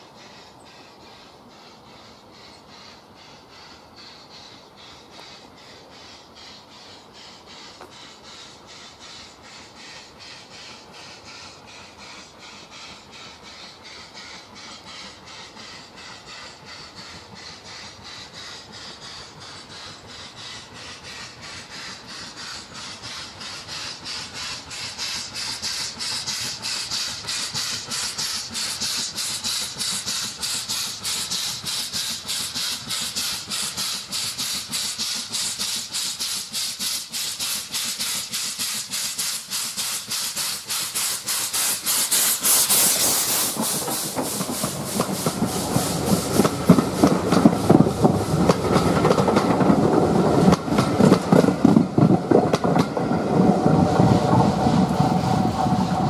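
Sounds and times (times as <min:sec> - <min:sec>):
steam locomotive chuffing: 0:00.0 - 0:56.0
train coaches rumbling: 0:00.0 - 0:56.0
wheels clicking over rail joints: 0:09.9 - 0:56.0.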